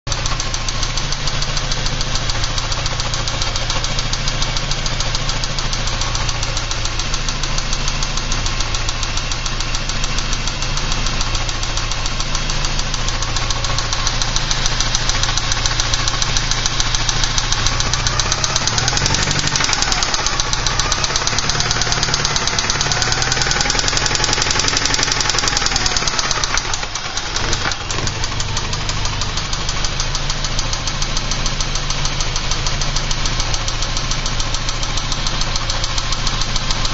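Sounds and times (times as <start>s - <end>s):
engine whine: 0.1s - 36.8s
car engine running: 0.1s - 36.9s
engine ticking knock: 0.1s - 36.9s.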